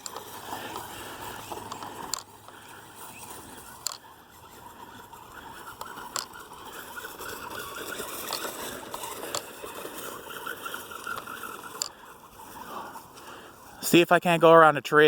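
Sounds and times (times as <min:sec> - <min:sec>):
electric motor whining: 0:00.0 - 0:13.8.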